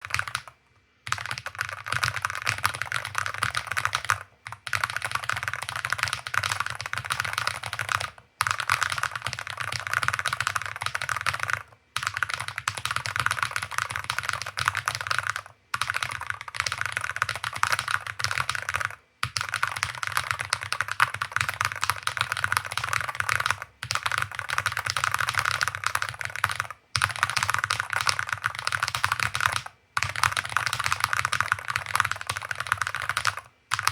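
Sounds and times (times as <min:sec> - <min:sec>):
very fast keyboard typing: 0:00.0 - 0:33.9.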